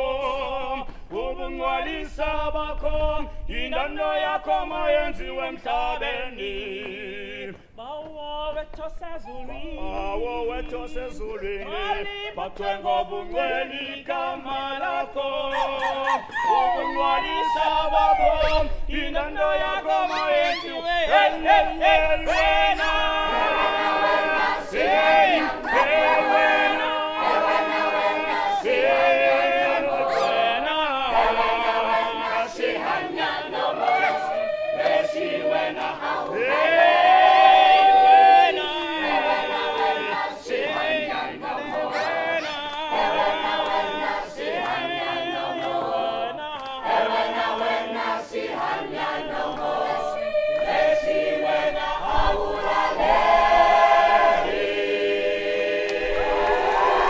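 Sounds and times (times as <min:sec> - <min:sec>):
group singing unaccompanied: 0:00.0 - 0:57.0.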